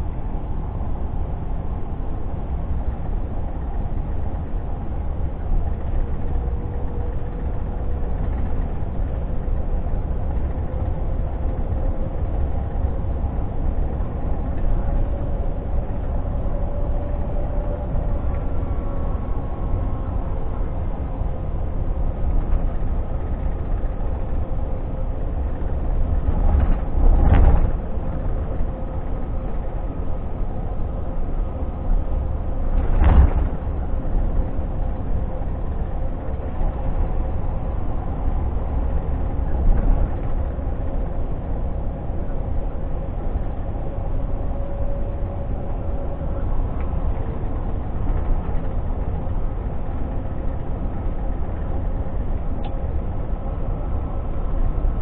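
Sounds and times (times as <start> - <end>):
faint steady whine: 0.0 - 55.0
truck diesel engine rumble: 0.0 - 55.0.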